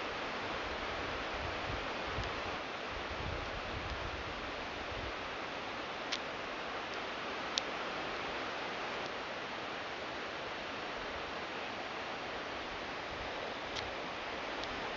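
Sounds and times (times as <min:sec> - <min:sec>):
outdoor background hiss: 0:00.0 - 0:14.9.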